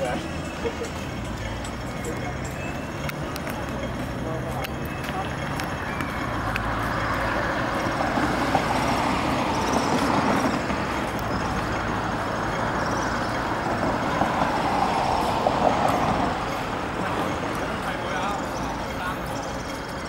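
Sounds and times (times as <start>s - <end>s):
road traffic rush: 0.0s - 20.0s.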